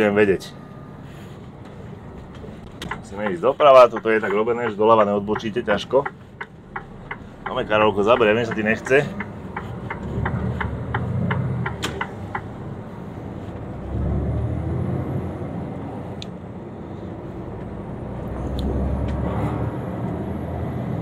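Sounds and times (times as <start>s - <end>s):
truck diesel engine pulling: 0.0s - 21.0s.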